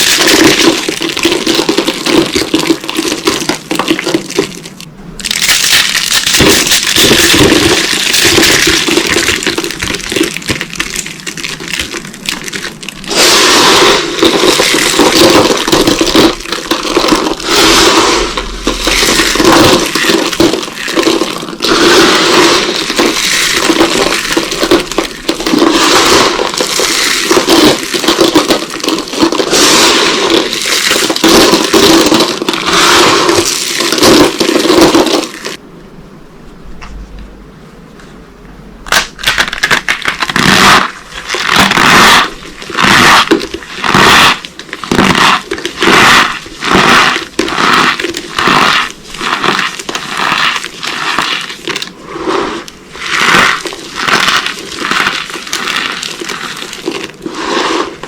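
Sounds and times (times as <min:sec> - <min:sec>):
dry soap crunching: 0:00.0 - 0:35.6, 0:38.9 - 0:58.0.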